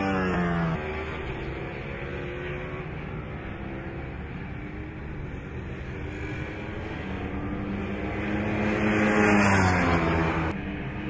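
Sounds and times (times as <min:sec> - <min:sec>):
superbikes passing at high revs: 0:00.0 - 0:11.0.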